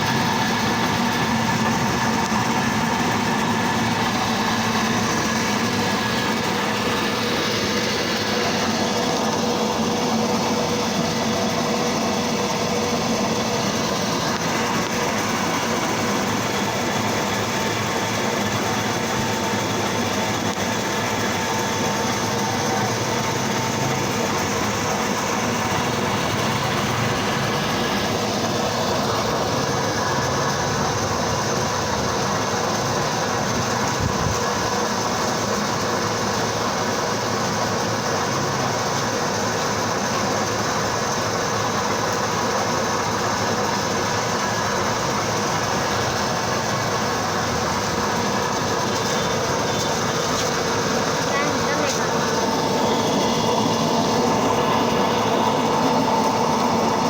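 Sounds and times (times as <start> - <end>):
crusher machine running: 0.0 - 57.0.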